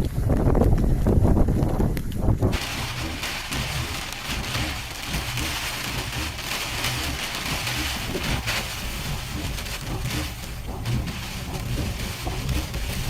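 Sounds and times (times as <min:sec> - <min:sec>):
low rumble: 0:00.0 - 0:13.0
heavy rain falling: 0:02.5 - 0:13.0.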